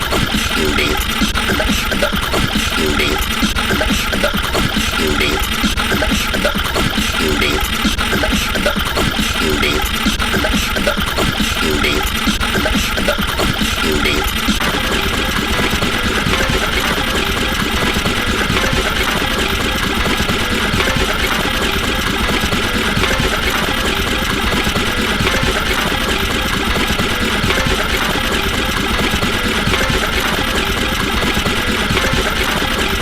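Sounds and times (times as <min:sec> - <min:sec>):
machine running steadily: 0:00.0 - 0:33.0.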